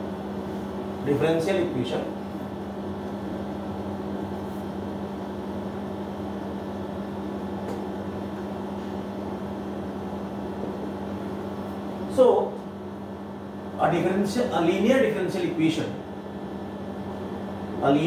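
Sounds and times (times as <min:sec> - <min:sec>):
air conditioner hum: 0:00.0 - 0:18.0.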